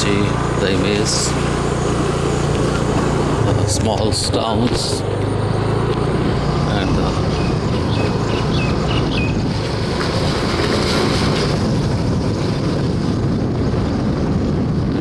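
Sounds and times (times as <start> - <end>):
moving vehicle rumble: 0.0 - 15.0
wind rushing over microphone: 0.0 - 15.0.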